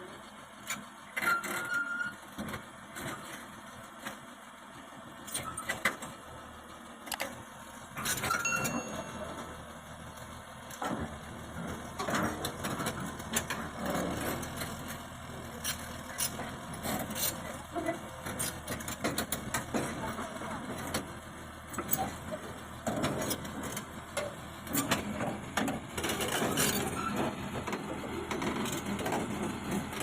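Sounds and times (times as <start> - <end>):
heavy machinery engine running: 0.0 - 30.0.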